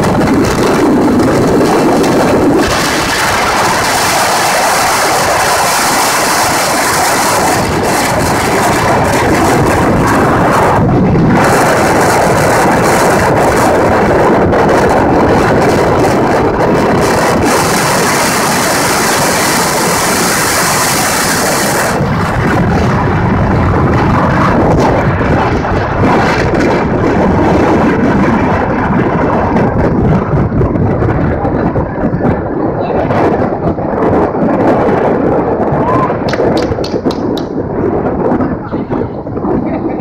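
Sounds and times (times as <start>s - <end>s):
wheels rolling on asphalt: 0.0s - 40.0s
wind buffeting microphone: 0.0s - 40.0s.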